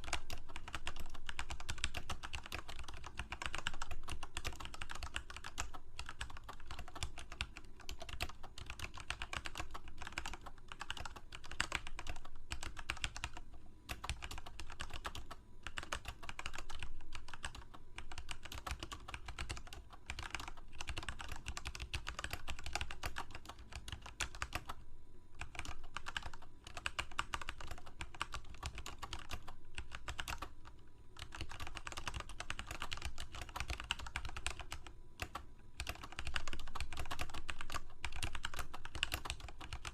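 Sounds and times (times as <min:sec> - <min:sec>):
computer keyboard typing: 0:00.0 - 0:24.8, 0:25.4 - 0:39.9.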